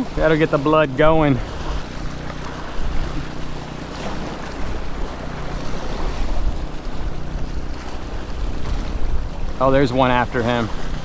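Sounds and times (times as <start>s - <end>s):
steady low hum: 0.0s - 11.0s
wind on microphone: 0.0s - 11.0s
small waves splashing on rocks: 0.2s - 11.0s.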